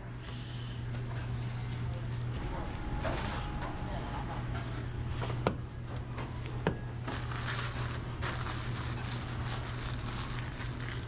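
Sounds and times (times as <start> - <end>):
low hum of kitchen equipment: 0.0 - 11.0.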